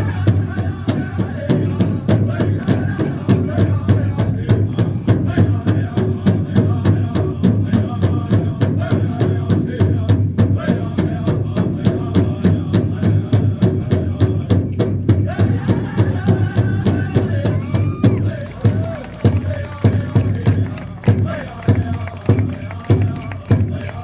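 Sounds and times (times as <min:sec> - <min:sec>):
large drum beating fast: 0:00.0 - 0:23.9
singers chanting: 0:00.0 - 0:24.0.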